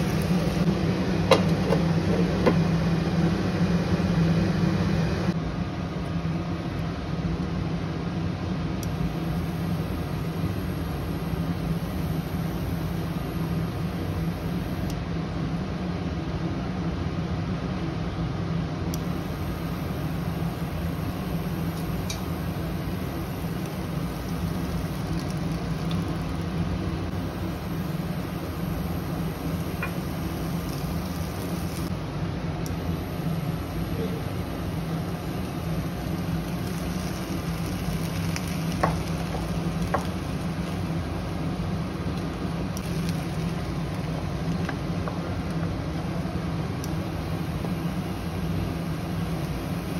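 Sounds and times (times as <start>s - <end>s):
induction cooktop fan whirring: 0.0s - 49.9s.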